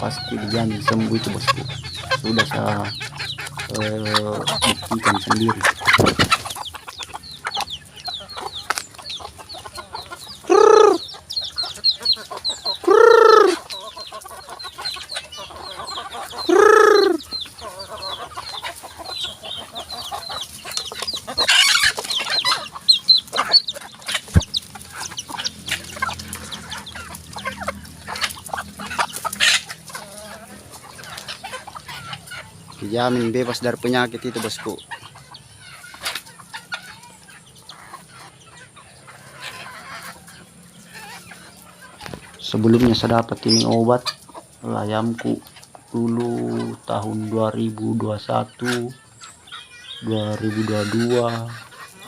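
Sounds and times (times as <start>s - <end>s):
chickens clucking: 0.0s - 52.0s
loud drawn-out chicken calls: 0.0s - 52.0s.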